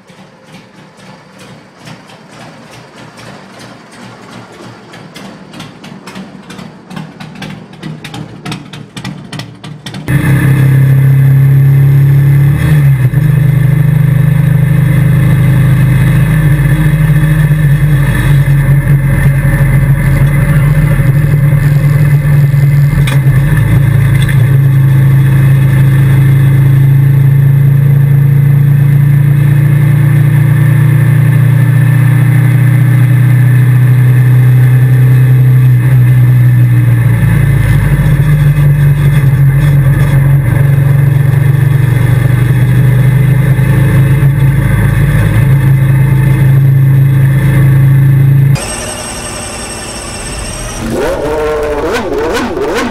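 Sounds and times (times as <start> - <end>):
engine clattering irregularly: 0.0 - 49.1
engine running hard under load: 0.0 - 52.9.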